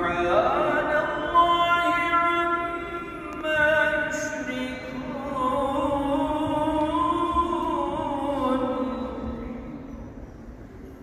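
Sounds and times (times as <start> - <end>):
man chanting melodically: 0.0 - 9.4.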